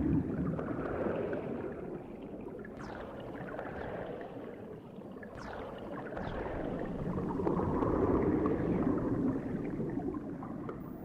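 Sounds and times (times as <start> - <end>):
underwater bubbling: 0.0 - 11.0.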